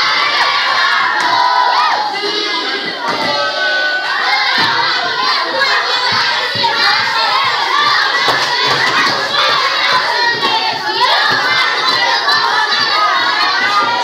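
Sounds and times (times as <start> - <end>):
children shouting and cheering: 0.0 - 14.0.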